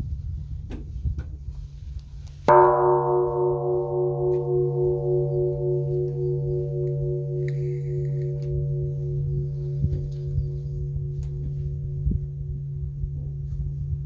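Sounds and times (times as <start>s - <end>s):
large bronze bell ringing: 2.5s - 14.0s.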